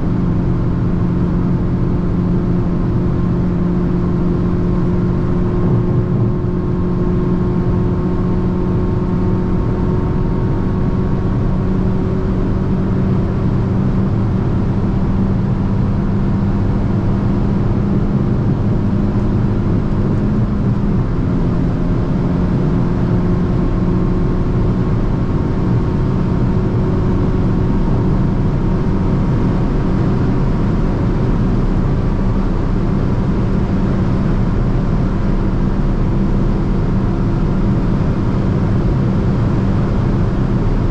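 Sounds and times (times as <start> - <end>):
car engine cruising: 0.0 - 40.9.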